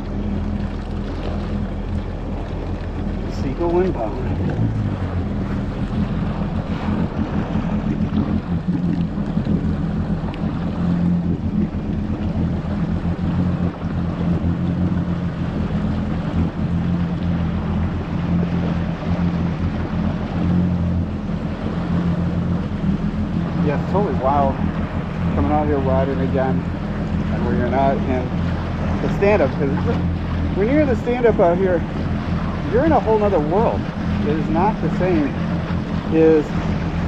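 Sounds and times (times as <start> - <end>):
jet ski engine hum: 0.0 - 37.0
water rushing: 0.0 - 37.0.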